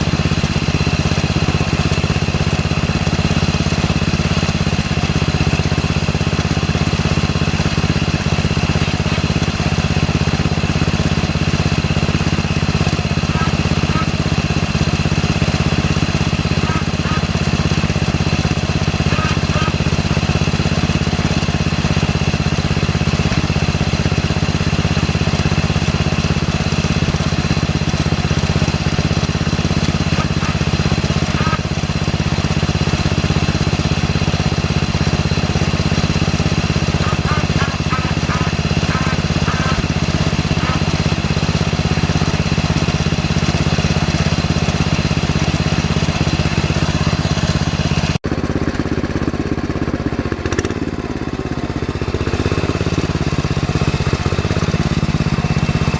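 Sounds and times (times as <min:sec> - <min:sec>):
small engine running steadily: 0:00.0 - 0:55.9.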